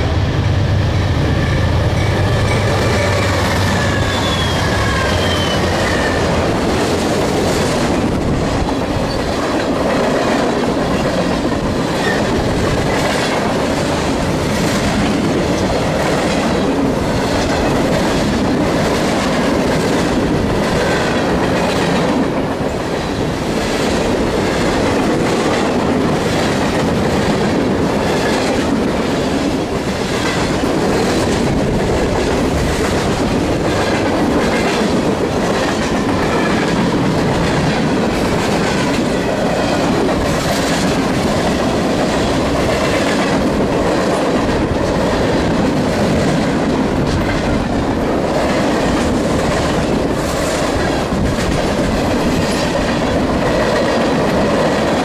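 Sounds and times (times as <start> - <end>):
train wheels rumbling on rail: 0.0 - 55.0
wheels clickety-clack over rail joints: 1.3 - 55.0.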